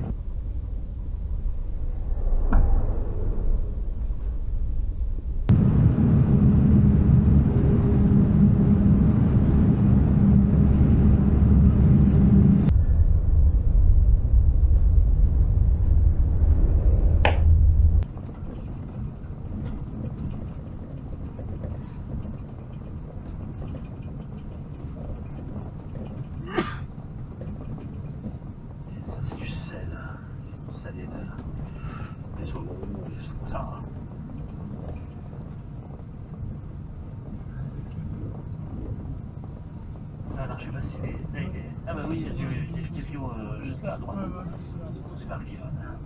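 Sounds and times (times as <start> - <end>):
truck engine and road rumble: 0.0 - 2.7, 3.5 - 46.0.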